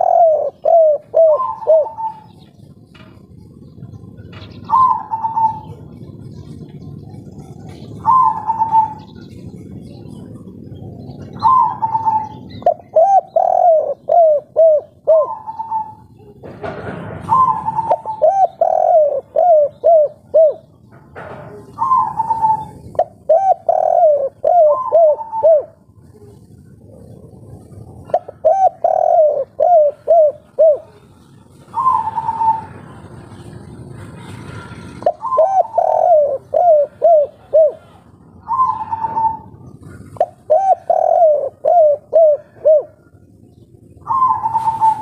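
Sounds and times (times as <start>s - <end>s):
dove cooing: 0.0s - 45.0s.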